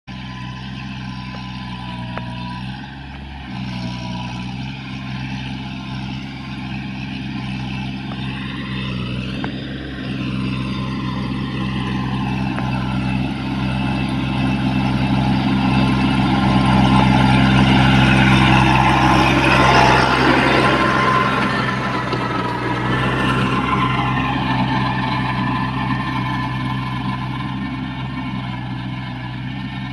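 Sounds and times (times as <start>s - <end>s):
tractor diesel engine running: 0.1s - 29.9s.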